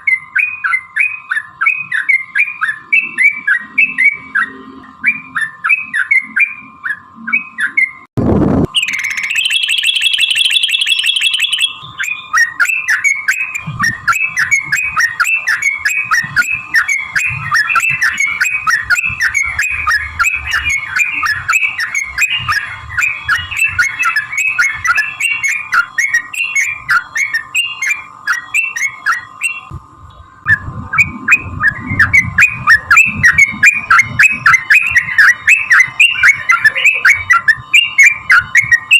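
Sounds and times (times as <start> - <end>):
bird chattering song: 0.0 - 8.0, 8.8 - 38.9
buzzy trill: 0.0 - 38.9.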